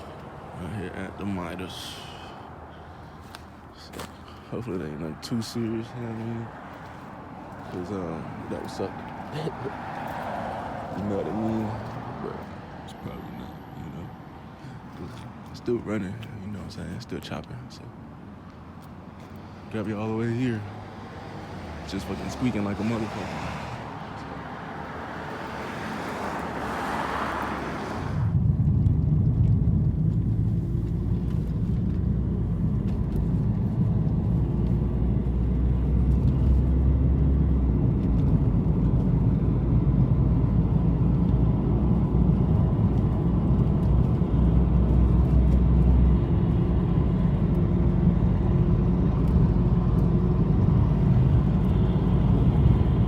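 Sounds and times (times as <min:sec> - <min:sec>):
car road rumble: 0:00.0 - 0:53.0.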